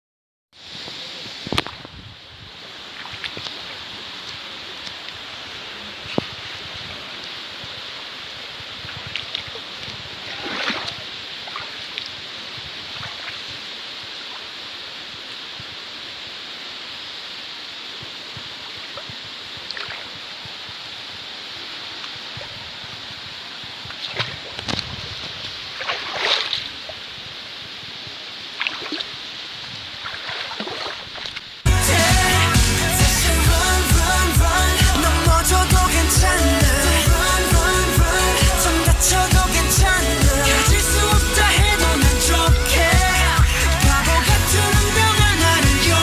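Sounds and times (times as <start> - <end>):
river flowing: 0.6 - 46.0.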